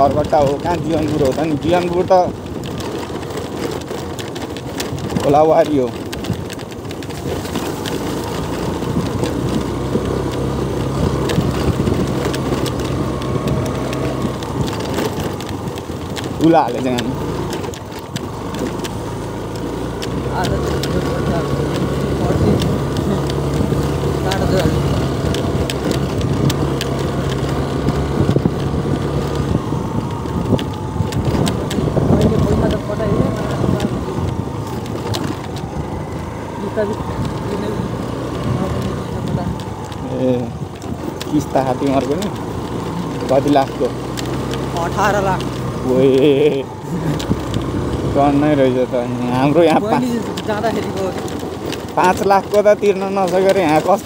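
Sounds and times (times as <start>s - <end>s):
road noise on dirt track: 0.0s - 54.0s
sharp clicks and rattles: 0.0s - 54.0s
tyres crunching on gravel: 0.0s - 54.0s
vehicle engine hum: 0.0s - 54.0s.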